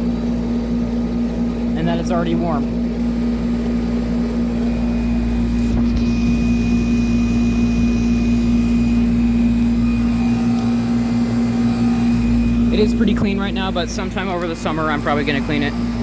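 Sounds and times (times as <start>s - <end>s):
compressor humming: 0.0s - 16.0s
fan rushing: 0.0s - 16.0s.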